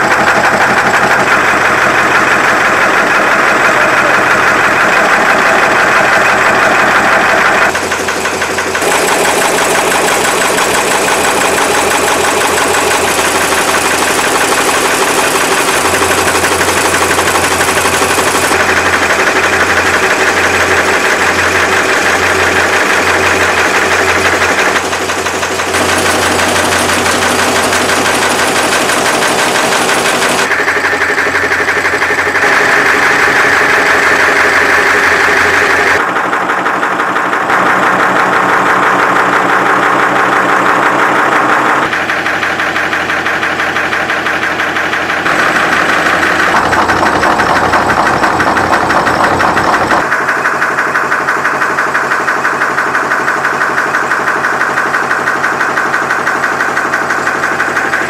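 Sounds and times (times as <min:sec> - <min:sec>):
nail making machine clattering: 0:00.0 - 0:58.0.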